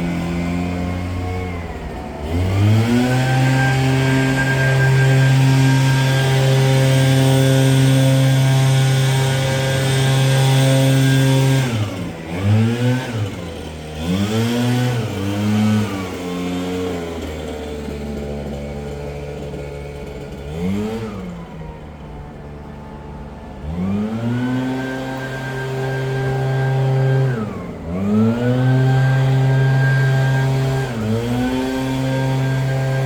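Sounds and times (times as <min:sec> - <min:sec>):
leaf blower engine revving: 0:00.0 - 0:33.0.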